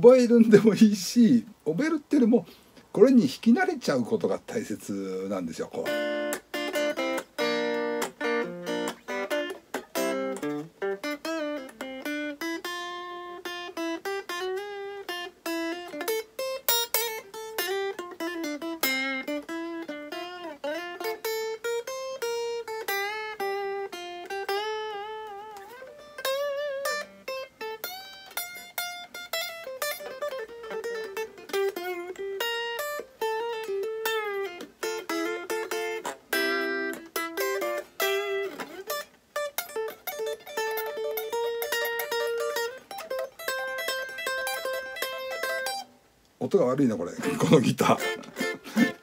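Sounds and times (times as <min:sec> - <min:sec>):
electric guitar lead: 0:05.7 - 0:46.0, 0:47.1 - 0:49.0.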